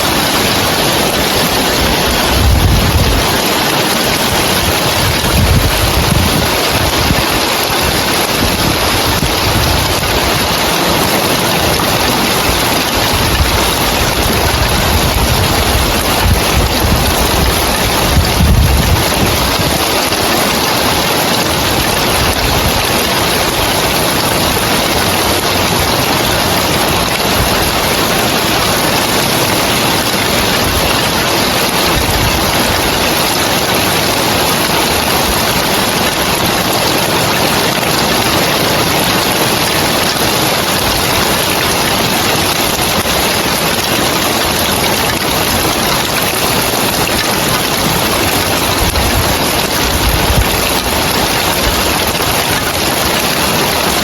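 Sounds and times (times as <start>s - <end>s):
rain on roof tiles: 0.0s - 54.0s.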